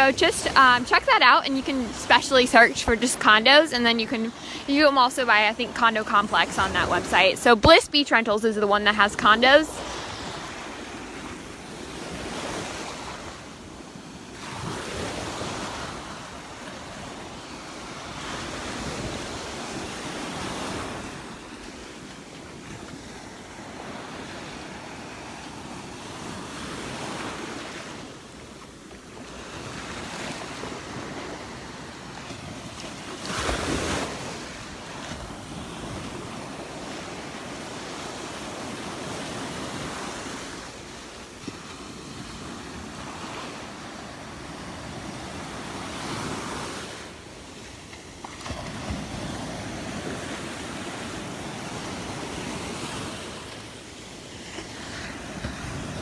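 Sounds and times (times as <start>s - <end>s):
surf washing onto beach: 0.0s - 56.0s.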